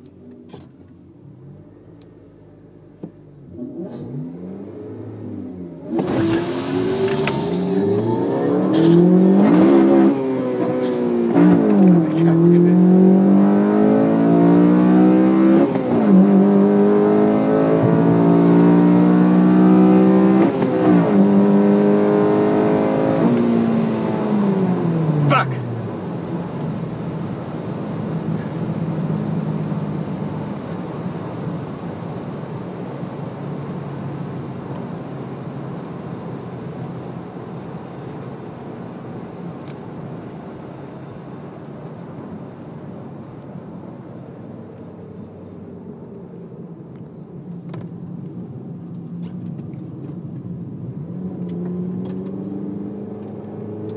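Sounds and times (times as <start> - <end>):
road and wind noise in car: 0.0 - 53.9.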